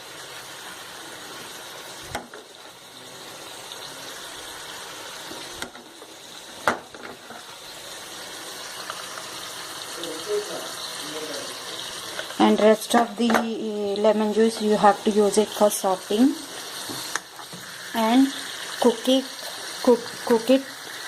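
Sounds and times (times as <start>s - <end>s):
meat sizzling in a pan: 0.0s - 21.0s.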